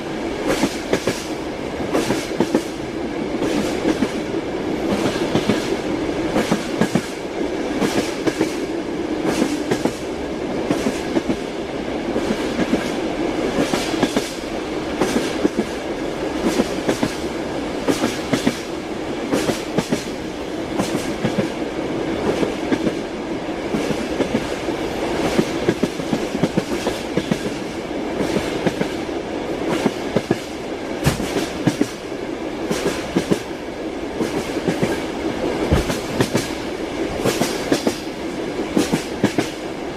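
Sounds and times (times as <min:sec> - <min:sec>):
train rolling rumble: 0:00.0 - 0:39.9
train wheels clicking on rail joints: 0:00.3 - 0:39.9.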